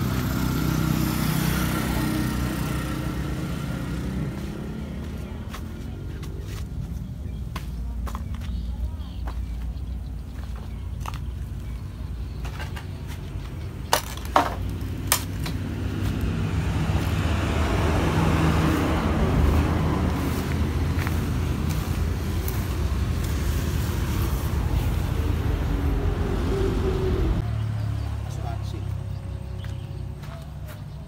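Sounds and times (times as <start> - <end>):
passing road traffic: 0.0 - 31.0.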